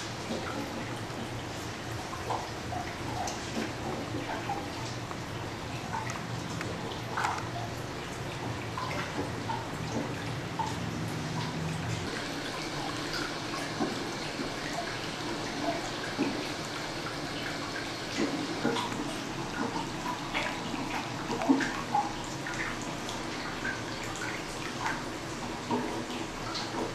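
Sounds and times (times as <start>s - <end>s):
water drips: 0.0s - 26.9s
water pouring into bath: 0.0s - 26.9s.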